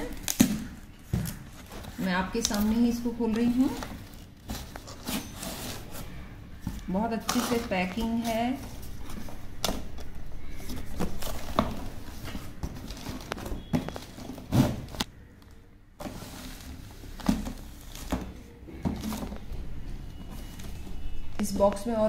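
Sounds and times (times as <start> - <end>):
cardboard rustling and scraping: 1.0 - 15.1, 16.0 - 21.8.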